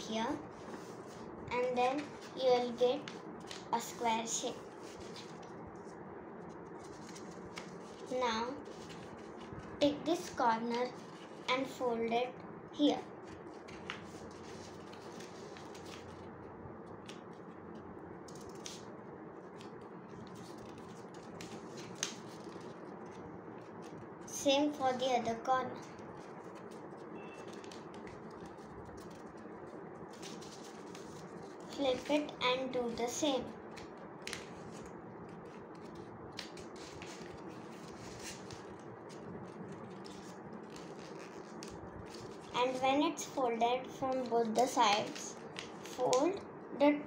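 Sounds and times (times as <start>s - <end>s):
low background hum: 0.0s - 47.0s
paper rustling and crinkling: 0.3s - 11.7s, 13.2s - 16.3s, 19.5s - 24.0s, 25.8s - 42.9s, 44.1s - 46.3s.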